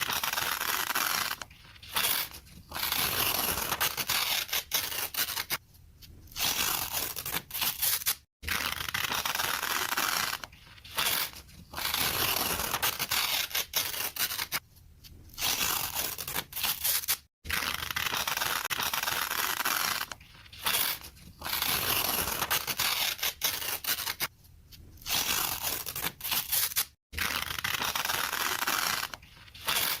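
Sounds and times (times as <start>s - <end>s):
paper tearing: 0.0s - 5.6s, 6.3s - 14.6s, 15.4s - 24.3s, 25.0s - 30.0s.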